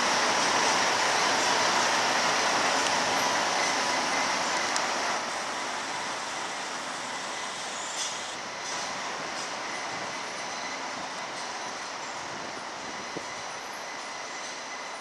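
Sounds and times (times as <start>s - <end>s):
locomotives running on track: 0.0s - 15.0s.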